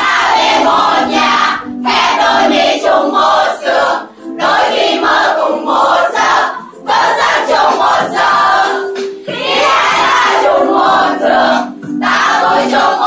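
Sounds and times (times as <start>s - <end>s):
song playing in room: 0.0s - 13.0s
students singing and shouting: 0.0s - 13.0s.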